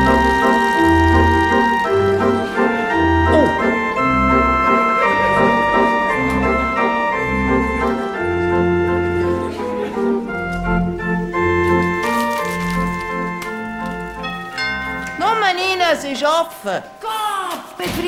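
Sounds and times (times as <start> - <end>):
organ music: 0.0 - 18.0.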